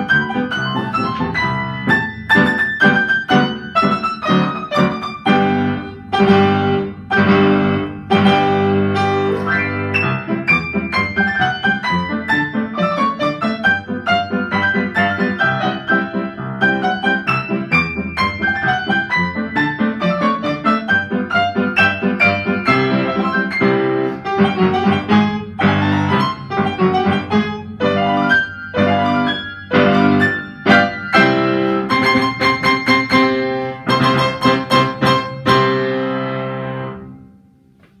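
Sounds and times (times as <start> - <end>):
upright piano fast chords: 0.0 - 38.0.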